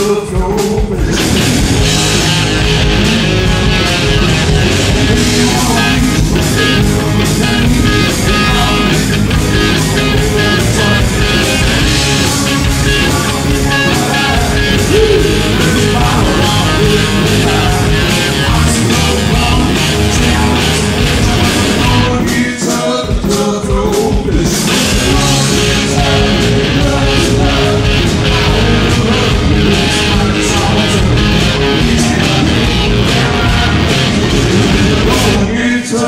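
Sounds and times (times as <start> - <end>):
person singing: 0.0 - 36.0
rock band playing live: 0.0 - 36.0.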